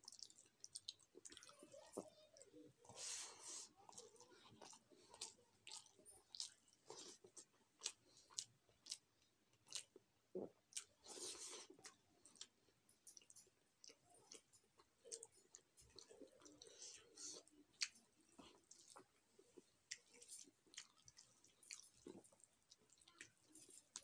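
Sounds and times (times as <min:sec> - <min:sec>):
wet chewing clicks and smacks: 0:00.0 - 0:02.6, 0:03.9 - 0:24.0.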